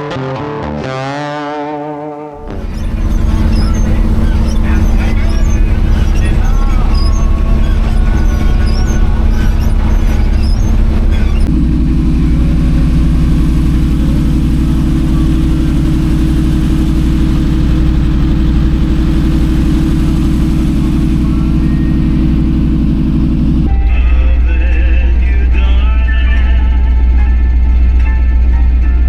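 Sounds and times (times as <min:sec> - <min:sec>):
pickup truck engine and road noise: 0:02.4 - 0:29.0.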